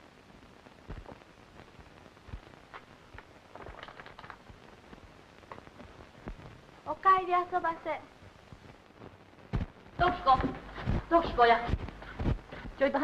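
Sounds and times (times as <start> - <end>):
film soundtrack hiss and crackle: 0.0 - 13.0
faint clicks and pops: 0.4 - 6.9, 8.1 - 12.8.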